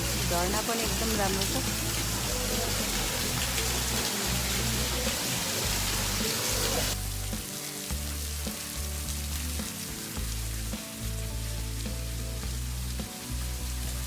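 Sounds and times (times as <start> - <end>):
music with pulsing bass line: 0.0 - 14.0
waterfall rushing: 0.0 - 14.0.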